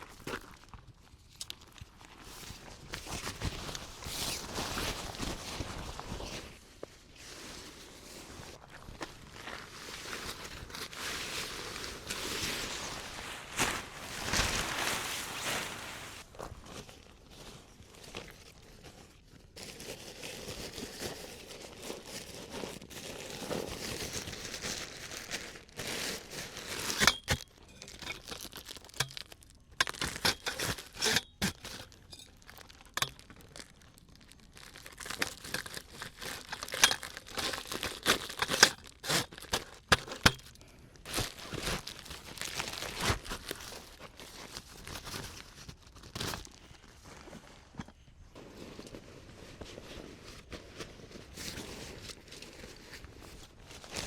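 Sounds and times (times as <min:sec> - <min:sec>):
crinkly material rustling: 0:00.0 - 0:54.0.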